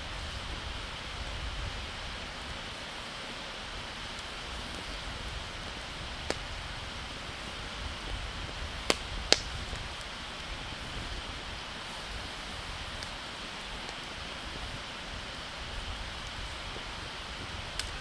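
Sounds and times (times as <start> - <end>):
fire hiss: 0.0 - 18.0
wood fire popping: 0.2 - 18.0.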